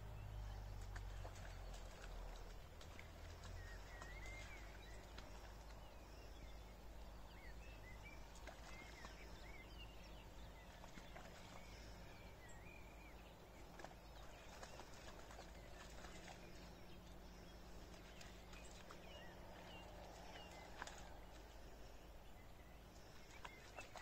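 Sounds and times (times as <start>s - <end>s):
steady low rumble: 0.0s - 24.0s
faint bird chirps: 3.2s - 24.0s.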